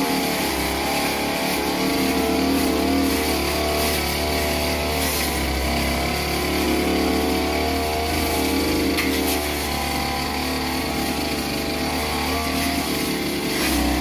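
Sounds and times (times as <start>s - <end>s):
brush cutter cutting grass: 0.0s - 14.0s.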